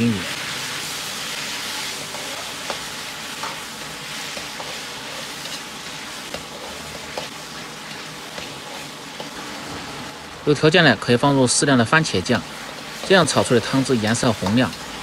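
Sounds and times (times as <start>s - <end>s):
vegetables sizzling in a wok: 0.0s - 15.0s.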